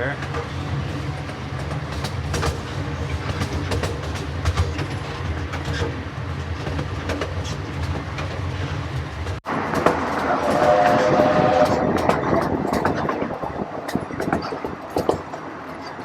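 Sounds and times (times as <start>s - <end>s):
train cars rumbling on track: 0.0s - 16.0s
wheels clicking over rail joints: 0.0s - 16.0s.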